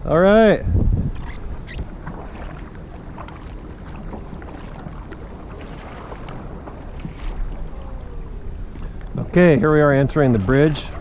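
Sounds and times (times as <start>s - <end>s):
wind on microphone: 0.0s - 11.0s
paddle splashing in water: 1.2s - 11.0s.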